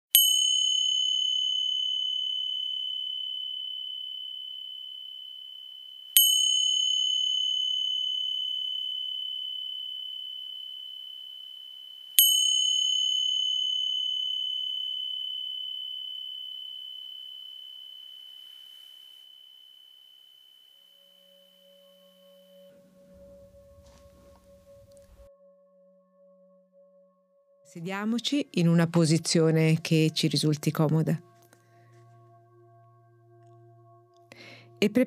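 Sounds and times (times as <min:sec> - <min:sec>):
meditation bell ringing: 0:00.1 - 0:35.0.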